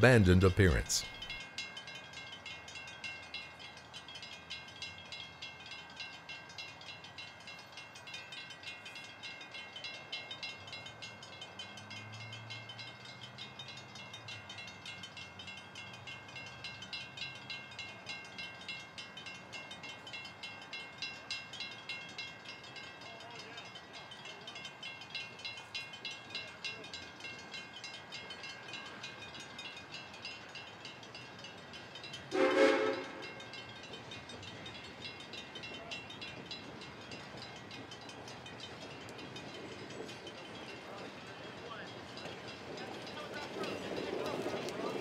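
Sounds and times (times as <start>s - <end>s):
crossing warning bell ringing: 0.0s - 45.0s.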